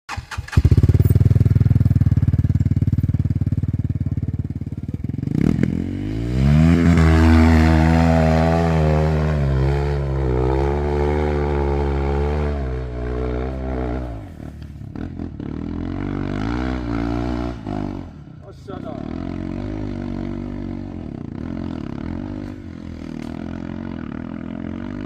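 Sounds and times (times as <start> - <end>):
dirt bike engine revving: 0.1 - 25.0.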